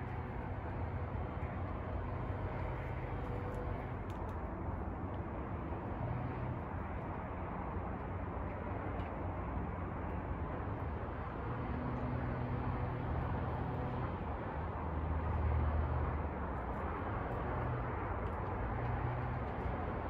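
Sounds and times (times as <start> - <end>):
road traffic hum: 0.0 - 20.0
vehicle engine drone: 0.0 - 20.0.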